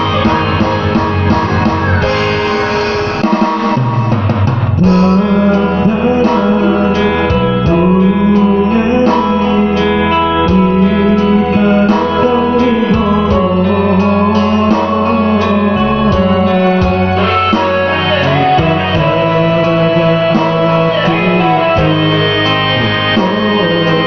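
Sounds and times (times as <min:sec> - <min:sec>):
person singing: 0:00.0 - 0:03.7, 0:04.8 - 0:24.0
guitar-led backing music: 0:00.0 - 0:24.0.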